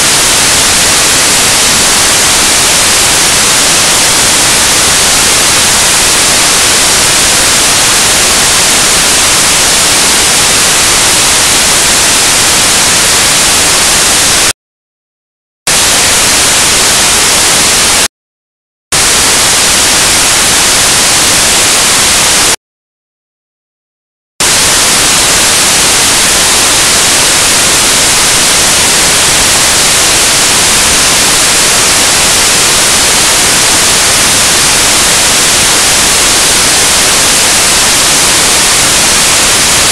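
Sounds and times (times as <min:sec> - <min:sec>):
loud static hiss: 0:00.0 - 0:14.6, 0:15.7 - 0:18.1, 0:19.0 - 0:22.6, 0:24.4 - 0:39.9.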